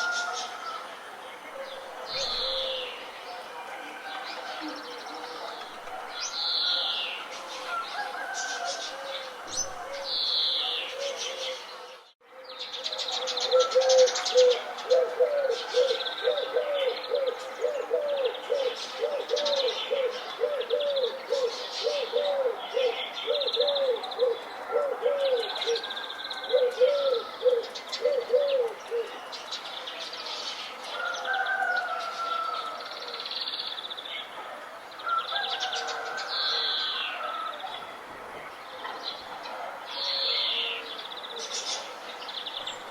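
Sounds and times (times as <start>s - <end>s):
birds singing and chirping: 0.0s - 42.9s.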